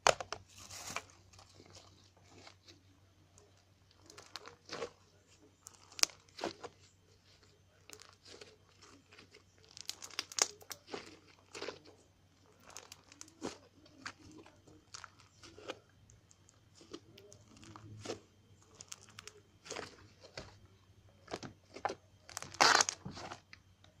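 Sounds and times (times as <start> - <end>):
slime crackling and popping: 3.4 - 20.6, 21.2 - 23.8.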